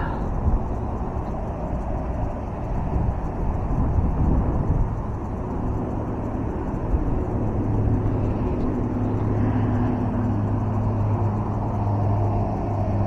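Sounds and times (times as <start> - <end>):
hum of motor traffic: 0.0 - 13.0.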